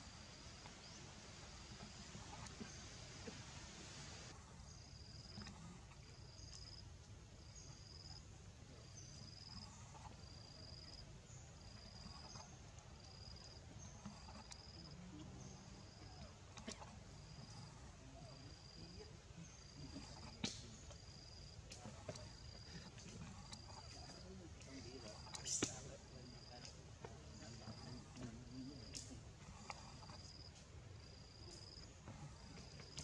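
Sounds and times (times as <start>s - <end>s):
insect chirping: 0.0s - 33.0s
low background noise: 0.0s - 33.0s.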